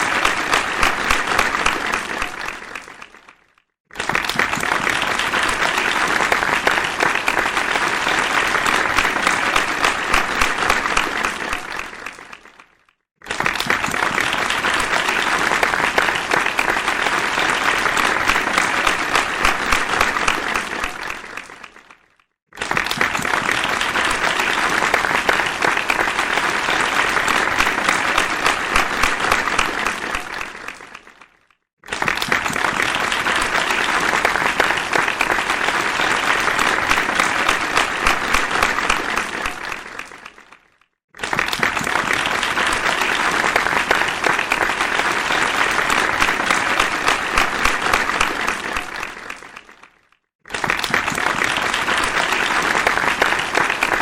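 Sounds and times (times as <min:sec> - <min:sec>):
audience applause: 0:00.0 - 0:54.0.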